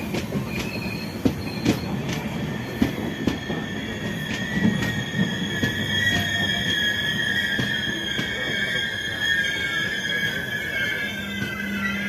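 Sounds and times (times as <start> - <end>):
train running on rails: 0.0 - 12.0
high wheel squeal: 0.3 - 12.0.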